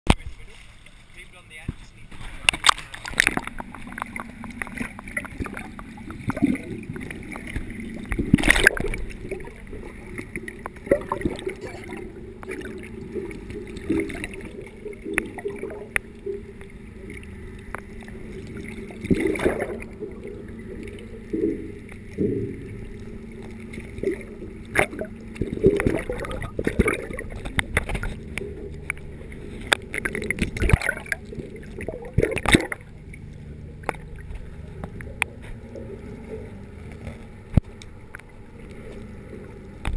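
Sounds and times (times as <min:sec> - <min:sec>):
low rumble: 0:00.1 - 0:39.9
muffled water sloshing and gurgling: 0:00.1 - 0:39.9.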